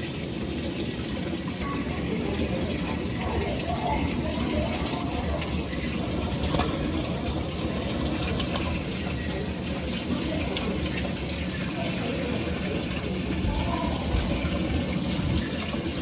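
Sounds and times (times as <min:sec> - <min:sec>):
water filling washing machine: 0:00.0 - 0:16.0.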